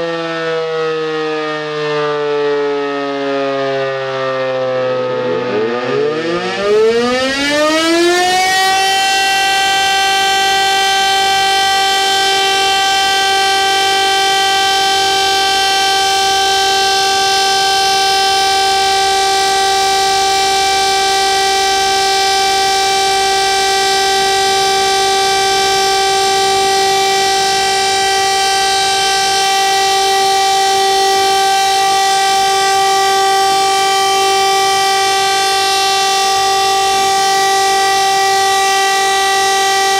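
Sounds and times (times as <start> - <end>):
second siren tone falling: 0.0 - 39.9
siren winding up to steady tone: 0.0 - 39.9.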